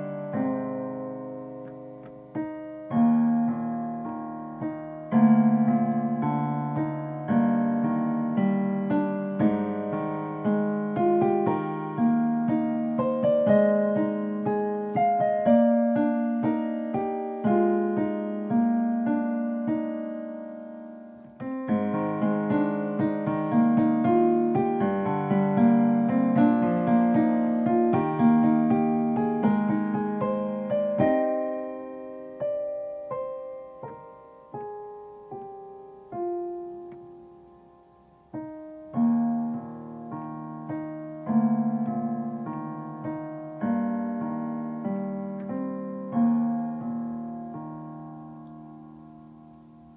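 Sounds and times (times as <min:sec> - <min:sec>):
digital piano broken chords: 0:00.0 - 0:49.9.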